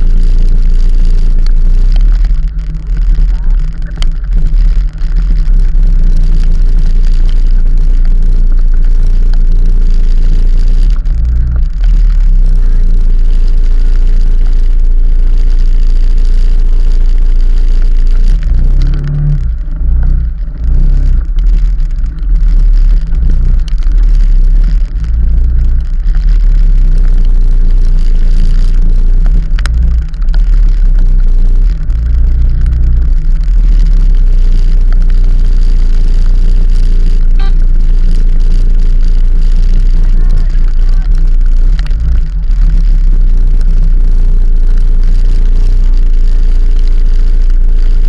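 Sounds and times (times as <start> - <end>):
vehicle running noise: 0.0 - 48.0.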